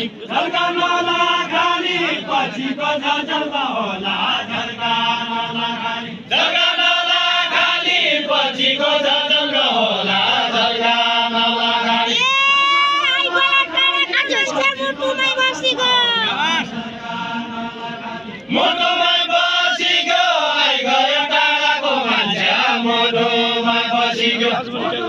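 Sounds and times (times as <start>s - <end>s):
voices singing long chant-like notes: 0.0s - 25.0s.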